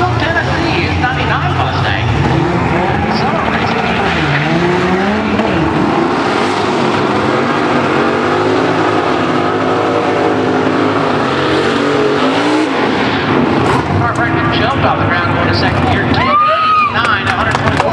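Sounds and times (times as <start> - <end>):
car engine at full throttle: 0.0 - 17.9.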